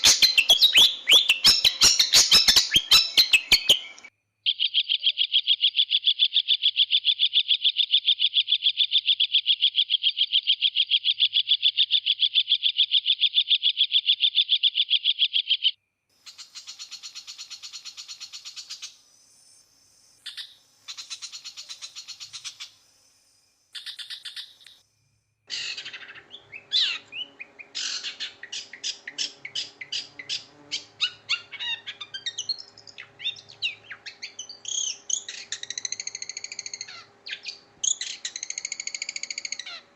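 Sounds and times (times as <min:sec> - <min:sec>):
bird chirps and whistled notes: 0:00.0 - 0:15.7, 0:16.3 - 0:24.8, 0:25.5 - 0:39.8
bird singing fast trills: 0:00.0 - 0:24.8, 0:25.5 - 0:39.9.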